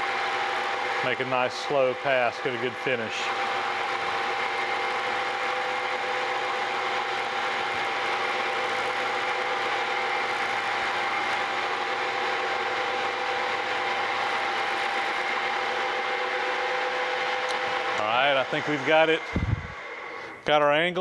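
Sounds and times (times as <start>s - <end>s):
end mill cutting metal: 0.0s - 20.6s
milling machine hum: 0.0s - 21.0s.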